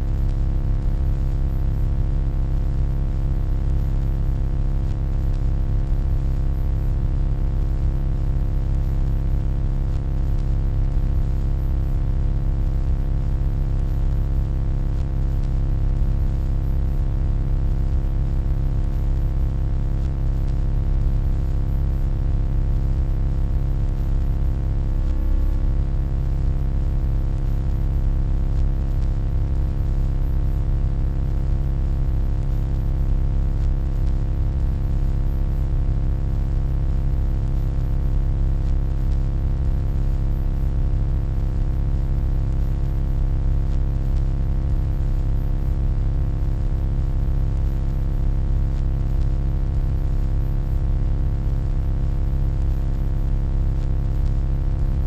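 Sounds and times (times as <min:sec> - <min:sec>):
electronic hum with bass drone: 0:00.0 - 0:52.8, 0:53.4 - 0:55.0.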